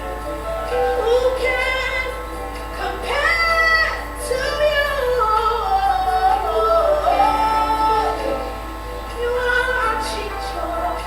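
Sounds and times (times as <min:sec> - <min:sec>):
instrumental backing: 0:00.0 - 0:11.0
woman singing: 0:00.7 - 0:11.0.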